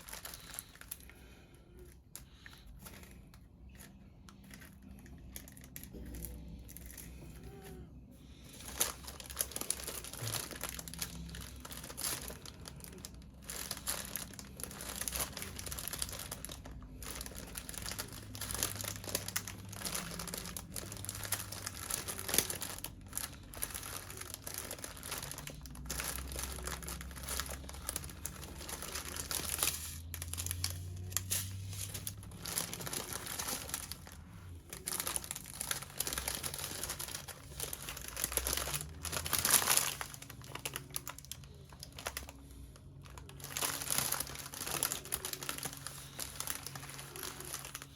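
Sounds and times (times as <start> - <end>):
plastic packets crinkling: 0.0 - 47.9.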